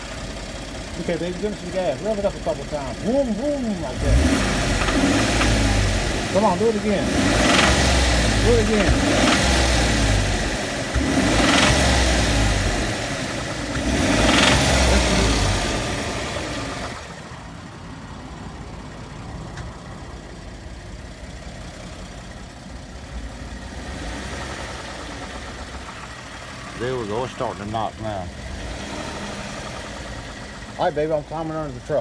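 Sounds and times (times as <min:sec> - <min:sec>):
engine revving and idling: 0:00.0 - 0:32.0.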